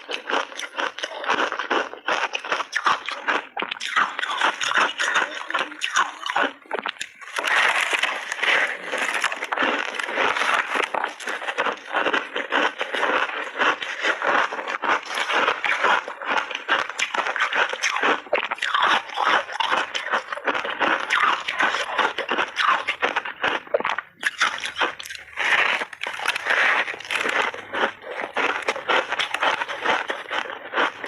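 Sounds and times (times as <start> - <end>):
person chewing crunchy ice: 0.0 - 31.0.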